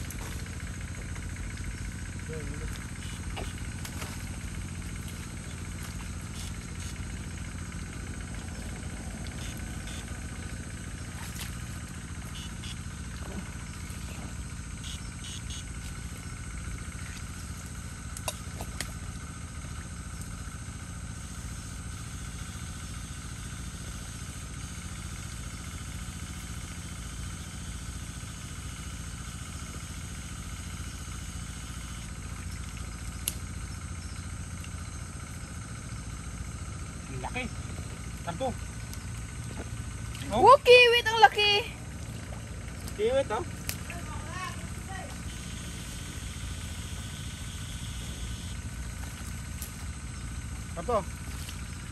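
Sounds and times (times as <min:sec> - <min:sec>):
small engine running: 0:00.0 - 0:51.9.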